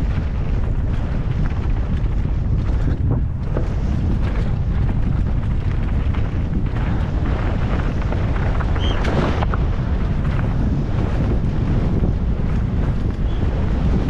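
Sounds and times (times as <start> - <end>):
bike rattling and knocking: 0.0 - 14.0
tyres on dirt and stones: 0.0 - 14.0
wind buffeting camera: 0.0 - 14.0.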